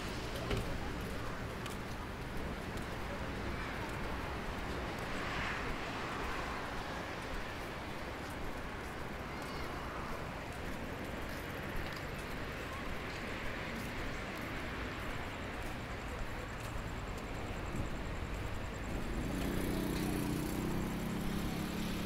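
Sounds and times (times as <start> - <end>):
faint footsteps: 0.0 - 20.6
city street background noise: 0.0 - 22.0.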